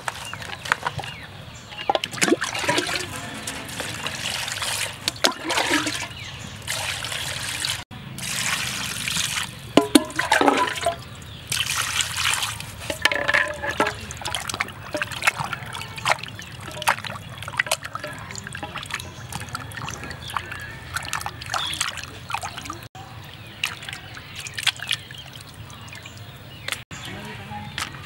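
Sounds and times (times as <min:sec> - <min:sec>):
fish rinsed in water: 0:00.0 - 0:26.8
water splashing and trickling: 0:00.0 - 0:28.0.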